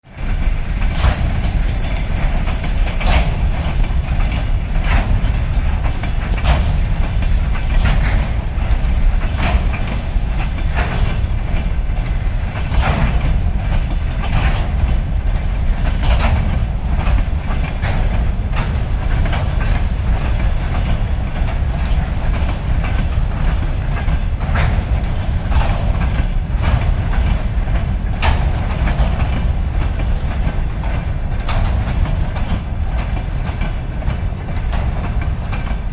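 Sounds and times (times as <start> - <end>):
freight train rumbling: 0.0 - 35.9
wheels clacking over rail joints: 0.1 - 35.9.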